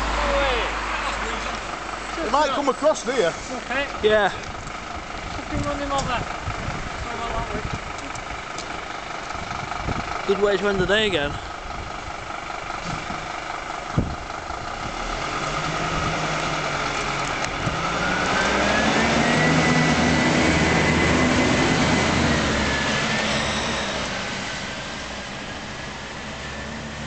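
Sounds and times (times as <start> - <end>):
engine whine: 0.0 - 27.0
truck diesel engine revving: 0.0 - 27.0.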